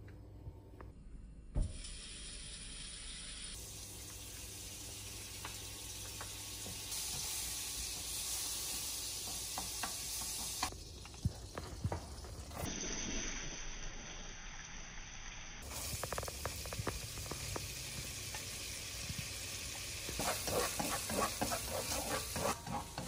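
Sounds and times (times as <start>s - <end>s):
food sizzling in oil: 1.7s - 23.0s.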